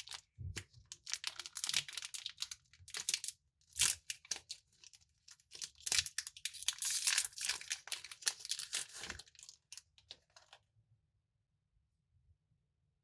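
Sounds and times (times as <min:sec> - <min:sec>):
plastic wrapper crinkling and tearing: 0:00.0 - 0:10.6.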